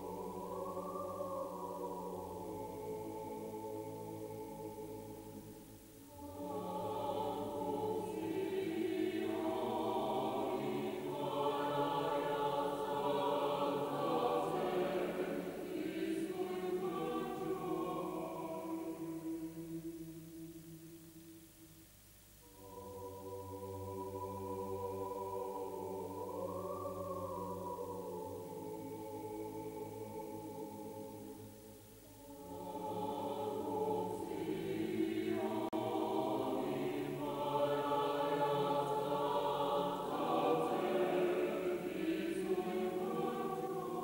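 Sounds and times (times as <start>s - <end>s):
church choir singing: 0.0s - 21.4s, 22.4s - 44.0s.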